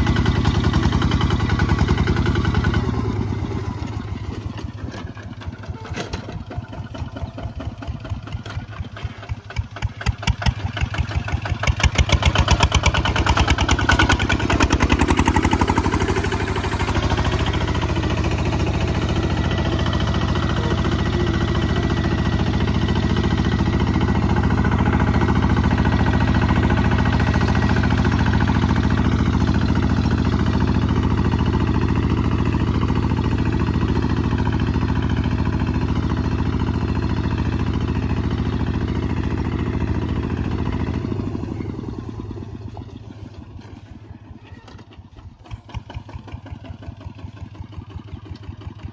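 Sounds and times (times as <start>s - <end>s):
diesel engine chugging: 0.0s - 48.9s.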